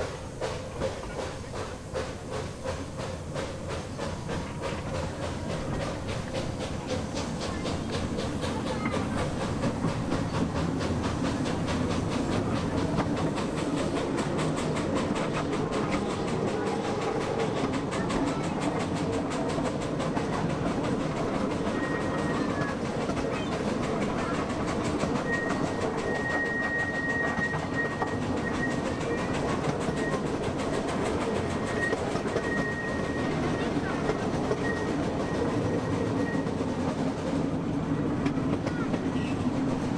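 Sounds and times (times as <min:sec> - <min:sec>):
train wheels clattering on track: 0:00.0 - 0:39.9.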